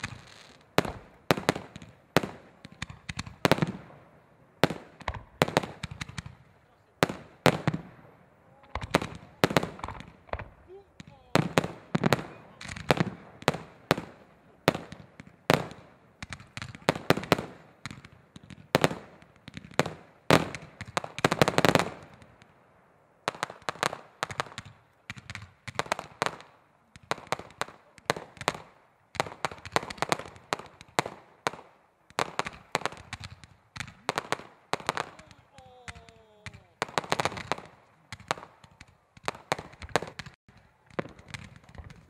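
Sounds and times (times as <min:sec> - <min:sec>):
fireworks bangs: 0:00.0 - 0:42.0.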